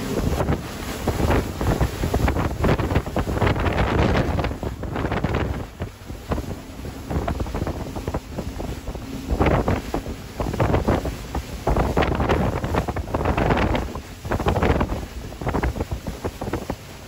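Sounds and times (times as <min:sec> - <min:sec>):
rush of boat wake: 0:00.0 - 0:17.0
wind buffeting microphone: 0:00.0 - 0:17.0.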